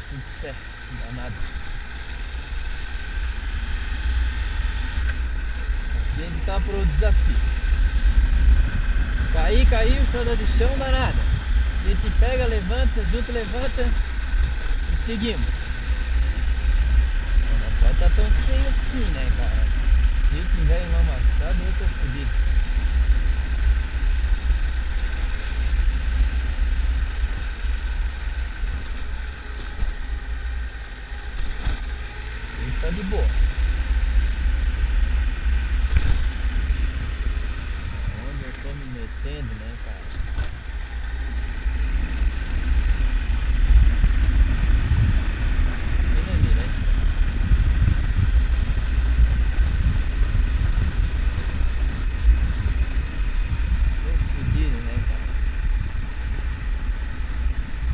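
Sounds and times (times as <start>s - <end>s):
motorcycle engine rumble: 0.0s - 57.9s.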